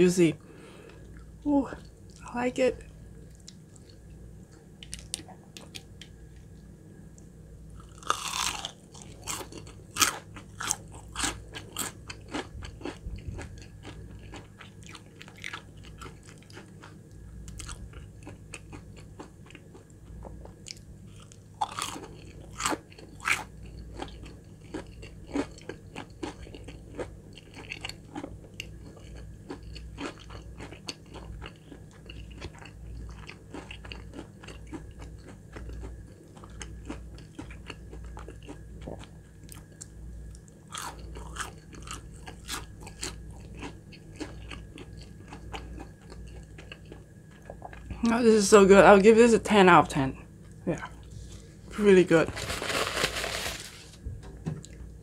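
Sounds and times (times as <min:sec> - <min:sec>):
crunchy chewing of fried food: 0:00.1 - 0:06.7, 0:07.6 - 0:48.0, 0:52.3 - 0:54.0.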